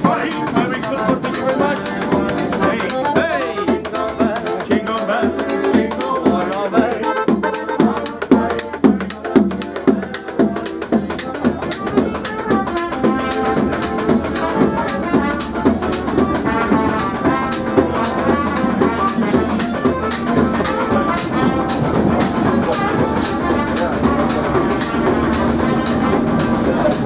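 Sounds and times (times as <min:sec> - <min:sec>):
piano accordion playing: 0:00.0 - 0:27.0
steady regular beat: 0:00.0 - 0:27.0.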